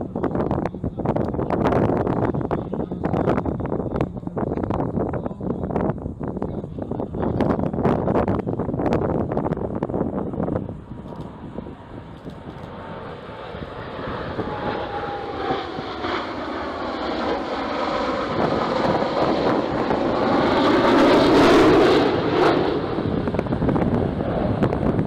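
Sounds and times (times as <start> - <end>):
jet engines flying past: 0.0 - 25.0.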